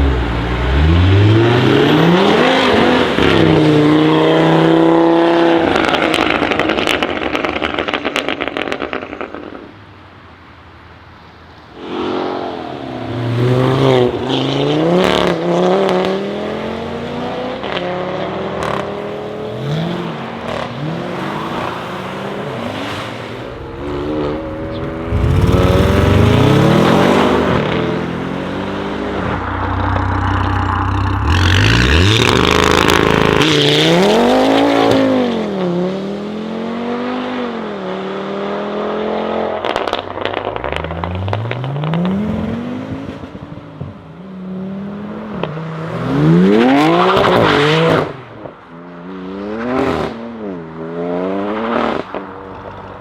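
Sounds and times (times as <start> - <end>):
car engine revving and accelerating: 0.0 - 8.0, 11.8 - 43.6, 44.3 - 48.3.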